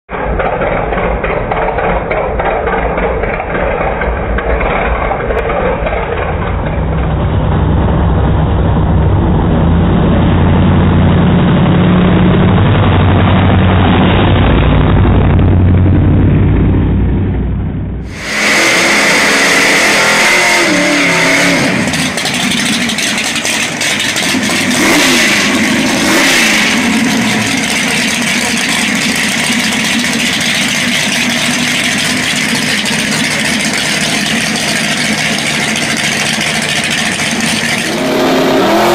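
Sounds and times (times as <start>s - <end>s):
race car engine revving: 0.2s - 38.9s.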